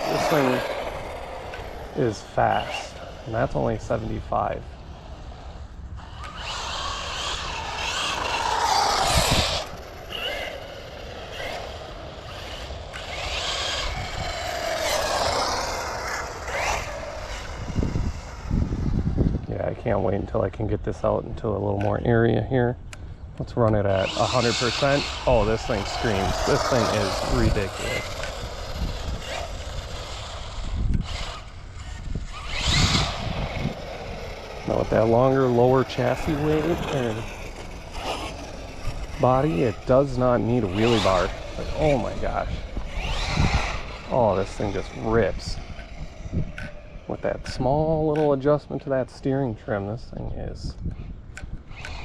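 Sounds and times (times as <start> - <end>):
electric motor whining: 0.0 - 20.3, 23.7 - 48.6, 50.8 - 52.0.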